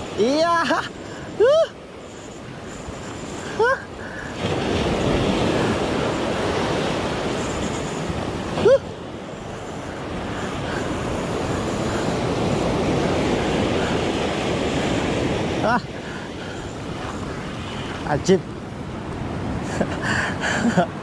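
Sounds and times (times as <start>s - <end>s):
surf washing on shore: 0.0s - 21.0s.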